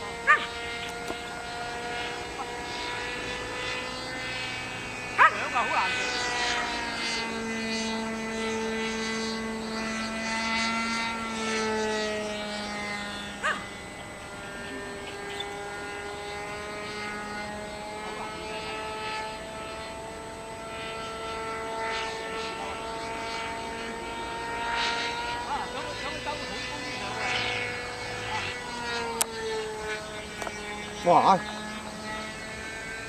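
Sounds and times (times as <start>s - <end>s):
model airplane motor droning: 0.0s - 33.0s.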